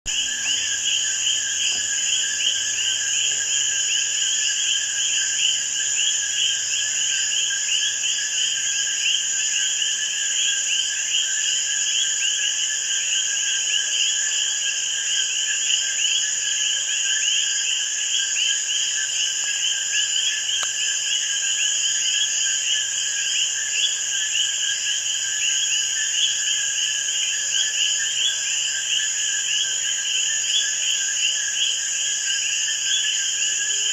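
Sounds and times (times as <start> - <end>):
frogs calling: 0.1 - 33.9
high-pitched insect drone: 0.1 - 33.9.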